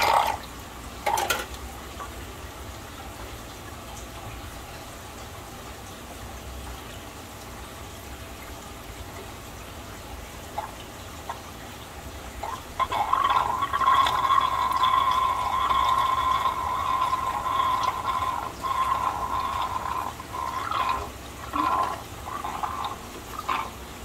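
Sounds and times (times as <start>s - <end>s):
water running: 0.0s - 24.0s.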